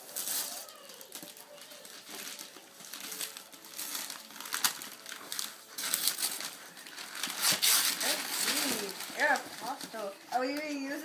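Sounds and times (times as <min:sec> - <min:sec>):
paper tearing: 0:00.0 - 0:09.8
wrapping paper rustling and crinkling: 0:00.0 - 0:11.0.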